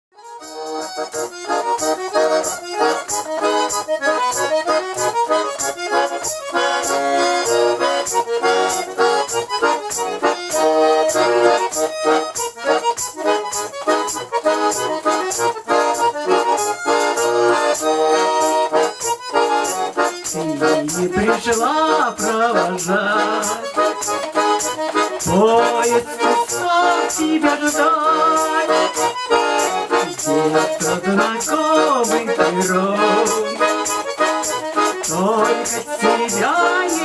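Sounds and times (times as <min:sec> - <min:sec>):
button accordion playing folk music: 0:00.1 - 0:37.0.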